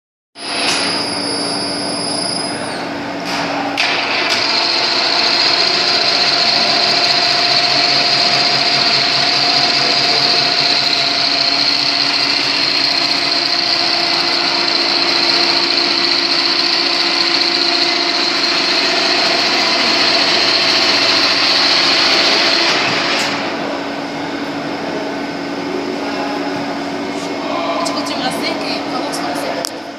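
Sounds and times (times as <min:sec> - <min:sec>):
high machine whine: 0:00.4 - 0:29.9
milling machine humming: 0:03.8 - 0:29.9.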